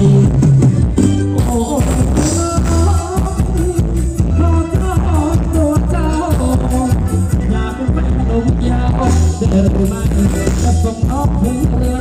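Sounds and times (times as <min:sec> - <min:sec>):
drum and bass beat: 0:00.0 - 0:12.0
person singing: 0:00.0 - 0:12.0.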